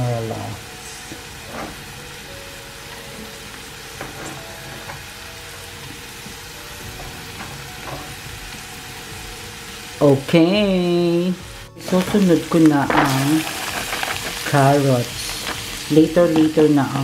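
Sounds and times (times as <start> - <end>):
onion and garlic sizzling in oil: 0.0 - 17.0.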